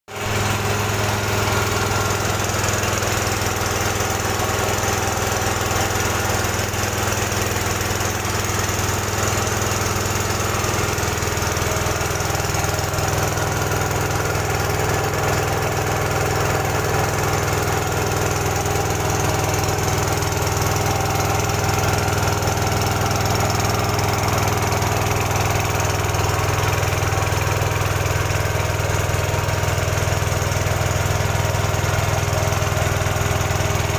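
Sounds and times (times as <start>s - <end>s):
air compressor humming: 0.1s - 33.9s.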